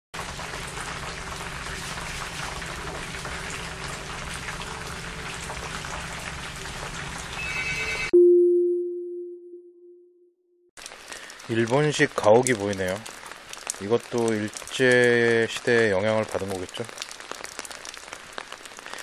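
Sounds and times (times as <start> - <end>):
oil sizzling and crackling: 0.2 - 7.7, 10.8 - 19.0.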